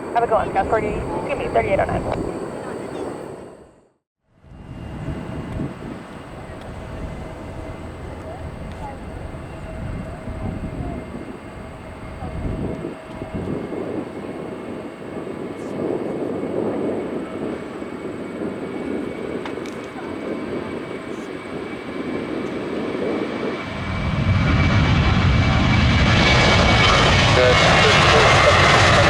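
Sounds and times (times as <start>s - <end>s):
jet engines roaring: 0.0s - 3.8s, 4.4s - 29.0s.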